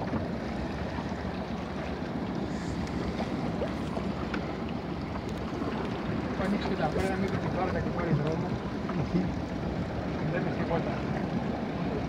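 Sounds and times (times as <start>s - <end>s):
outboard motor running: 0.0s - 12.0s
water washing past hull: 0.0s - 12.0s.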